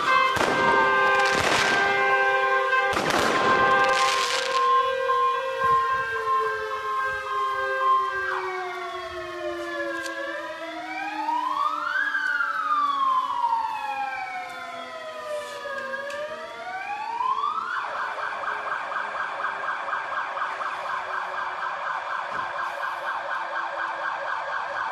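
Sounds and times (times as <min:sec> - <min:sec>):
fire engine sirens: 0:00.0 - 0:24.9.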